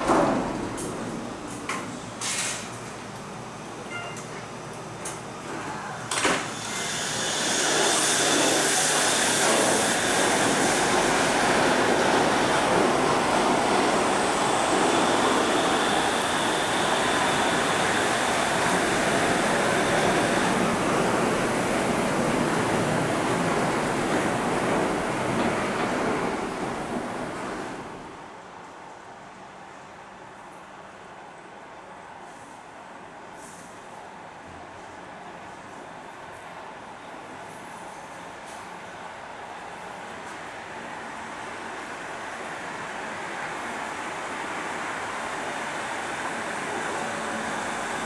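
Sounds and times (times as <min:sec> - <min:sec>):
monorail train running: 0:00.0 - 0:48.0.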